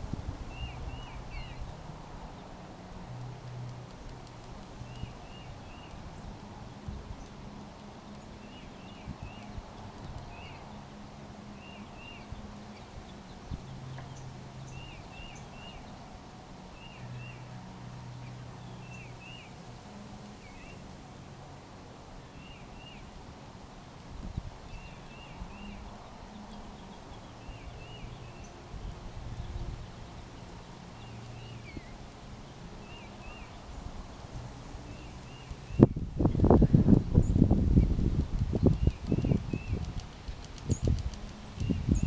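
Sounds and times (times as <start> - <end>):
faint low hum: 0.0 - 42.0
songbird chirping: 0.4 - 23.1, 24.7 - 42.0.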